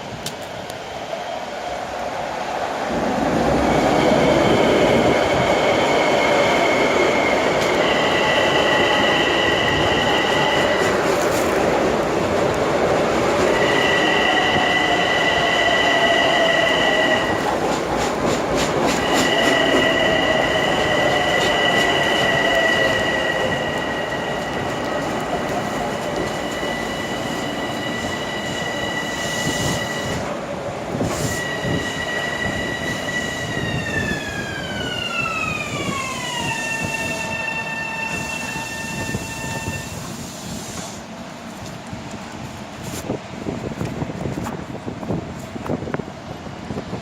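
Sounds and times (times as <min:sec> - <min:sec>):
wheels rumbling on rail: 0:00.0 - 0:47.0.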